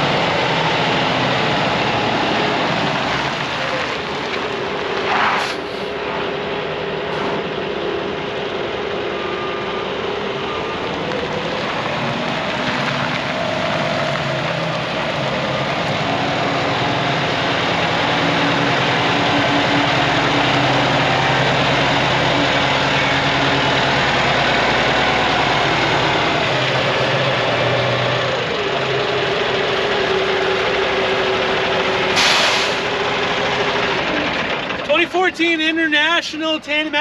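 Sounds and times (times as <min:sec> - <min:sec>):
truck diesel engine running: 0:00.0 - 0:37.0.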